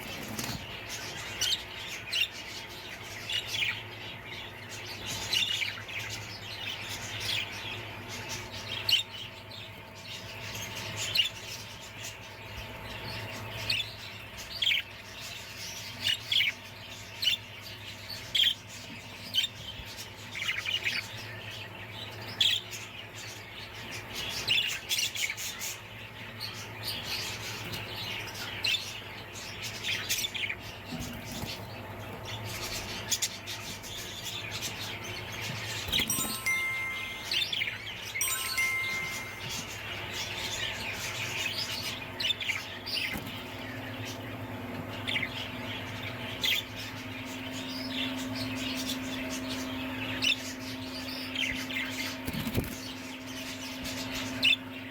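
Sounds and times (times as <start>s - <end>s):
parrots chirping and squawking: 0.0s - 54.9s.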